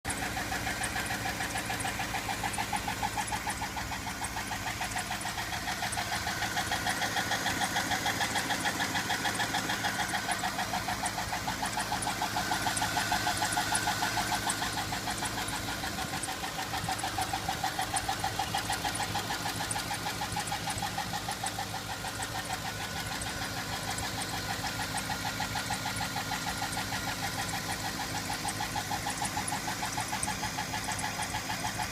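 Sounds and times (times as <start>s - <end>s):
car engine running: 0.0s - 31.9s
rapid ticking knock: 0.1s - 31.9s.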